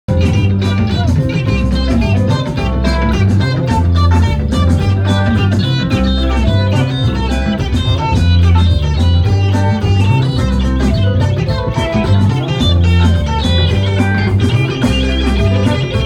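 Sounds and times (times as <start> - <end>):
bass line: 0.1 - 16.0
fast electric guitar run: 0.1 - 16.0.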